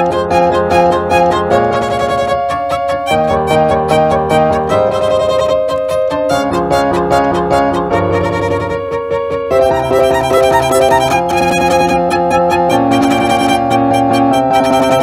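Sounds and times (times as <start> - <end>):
lower-pitched accompaniment: 0.0 - 15.0
violin sustained notes: 0.0 - 15.0.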